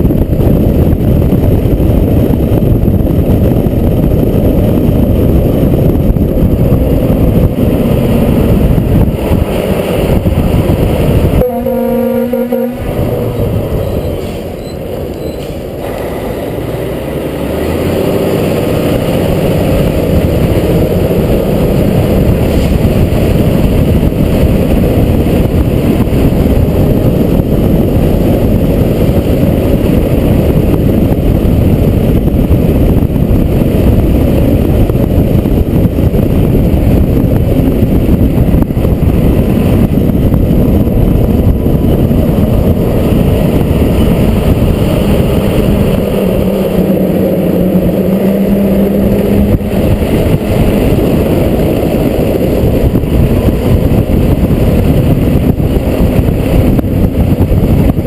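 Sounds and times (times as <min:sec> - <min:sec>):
fire truck engine rumble: 0:00.0 - 0:58.0
road and wind noise: 0:00.0 - 0:58.0.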